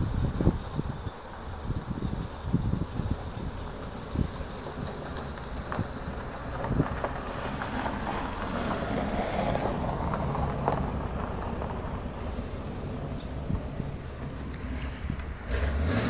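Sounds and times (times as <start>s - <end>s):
car engine rumbling: 0.0s - 16.0s
tyres crackling on gravel: 2.3s - 16.0s.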